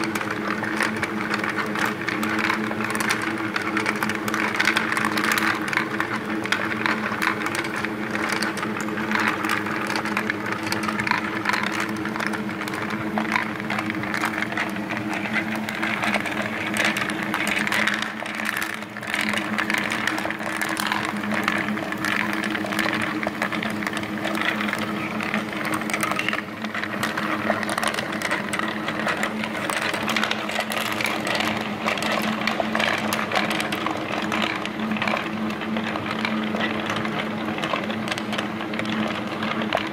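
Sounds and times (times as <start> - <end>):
marbles clattering on wooden tracks: 0.0 - 39.9.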